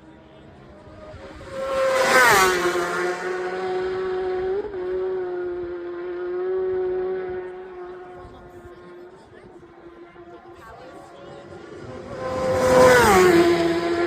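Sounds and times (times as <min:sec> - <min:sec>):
motorcycle passing at full speed: 0:00.1 - 0:14.0.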